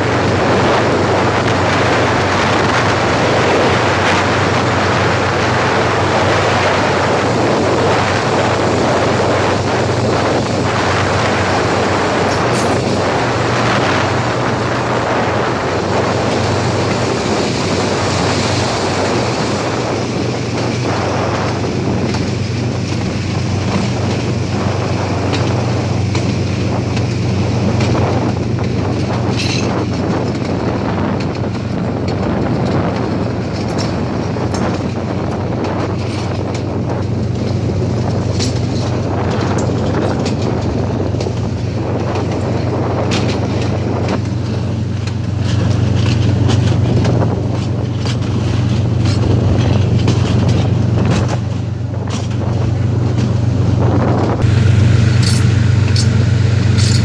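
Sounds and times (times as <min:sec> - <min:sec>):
constant low drone: 0:00.0 - 0:57.0
train wheels rumbling on track: 0:00.0 - 0:57.0.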